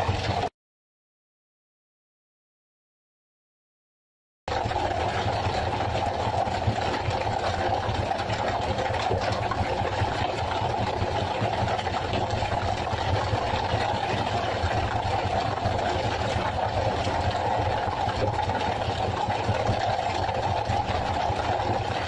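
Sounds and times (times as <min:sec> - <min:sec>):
boat engine running: 0:00.0 - 0:00.5, 0:04.5 - 0:22.0.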